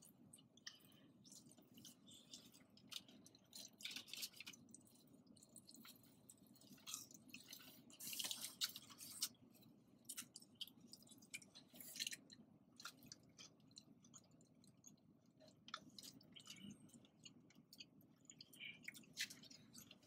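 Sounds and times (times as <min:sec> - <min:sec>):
close chewing and mouth sounds: 0:00.0 - 0:20.0
low steady hum: 0:00.0 - 0:20.0.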